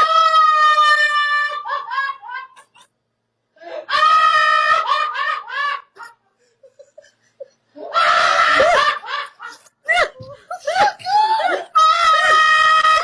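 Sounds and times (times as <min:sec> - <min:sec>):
person laughing hard: 0:01.4 - 0:02.9, 0:03.9 - 0:13.0.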